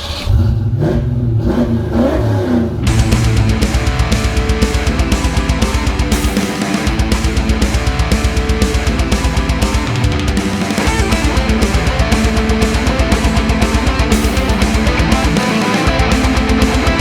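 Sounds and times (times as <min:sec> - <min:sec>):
heavy metal music: 0:02.8 - 0:17.0.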